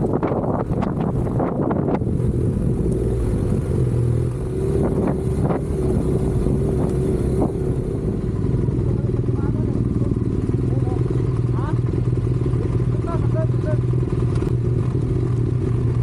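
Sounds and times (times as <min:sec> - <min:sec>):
motorcycle engine running: 0:00.0 - 0:16.0
rumbling wind and road noise: 0:00.0 - 0:16.0.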